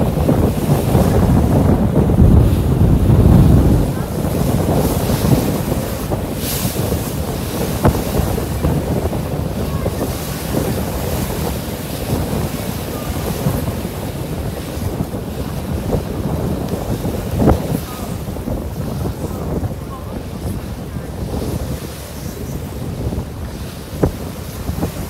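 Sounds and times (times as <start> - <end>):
water rushing past boat: 0.0 - 25.0
wind buffeting microphone: 0.0 - 25.0.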